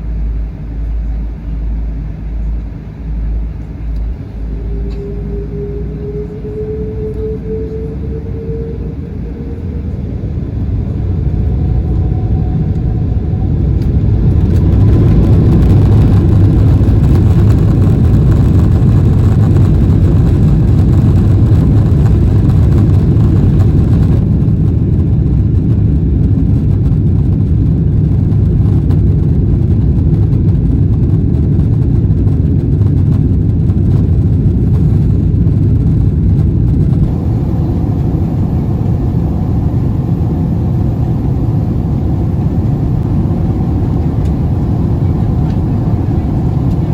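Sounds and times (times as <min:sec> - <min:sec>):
jet airliner cabin engine rumble: 0:00.0 - 0:46.9.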